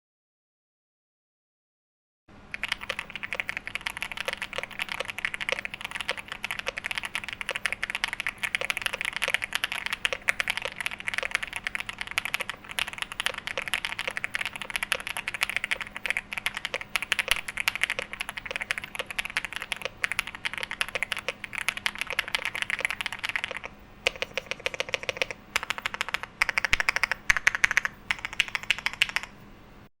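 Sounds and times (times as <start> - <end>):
fast mechanical keyboard typing: 2.5 - 29.4.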